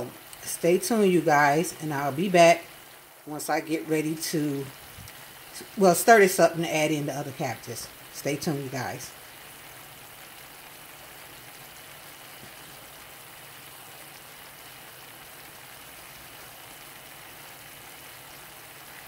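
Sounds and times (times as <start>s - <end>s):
cabbage sizzling in a skillet: 0.0s - 19.0s.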